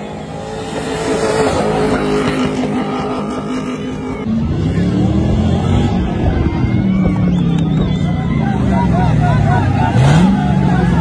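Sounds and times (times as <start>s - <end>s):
engine running at high revs: 0.0s - 11.0s.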